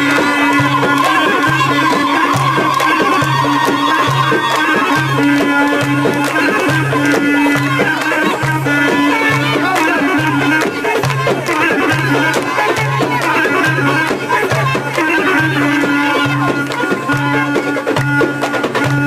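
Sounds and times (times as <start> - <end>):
folk music: 0.0 - 19.0
voices singing: 0.0 - 19.0.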